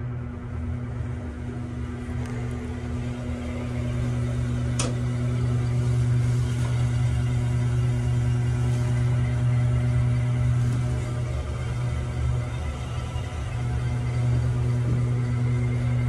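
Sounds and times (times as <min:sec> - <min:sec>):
low hum of fan machinery: 0:00.0 - 0:16.0.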